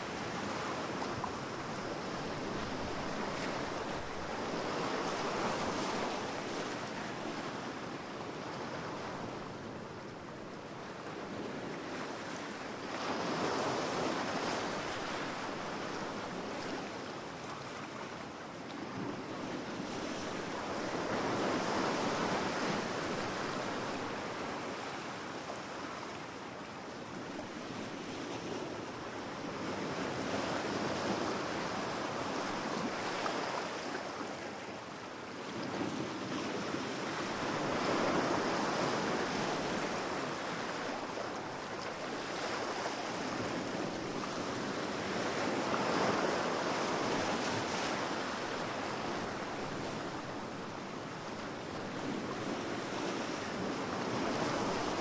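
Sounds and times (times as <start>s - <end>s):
ocean waves breaking on a beach: 0.0s - 55.0s.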